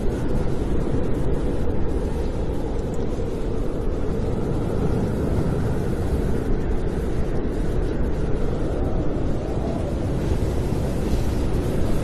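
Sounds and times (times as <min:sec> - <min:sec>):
wind low rumble: 0:00.0 - 0:12.0.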